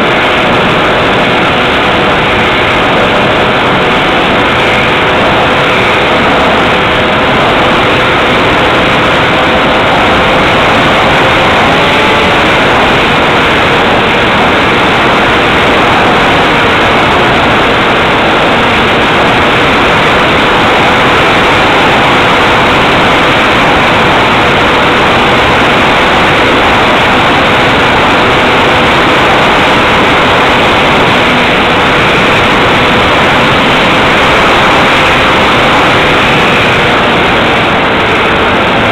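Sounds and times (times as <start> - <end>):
airflow rushing over microphone: 0.0 - 38.9
faint steady whine: 0.0 - 38.9
model plane electric motor: 0.0 - 38.9.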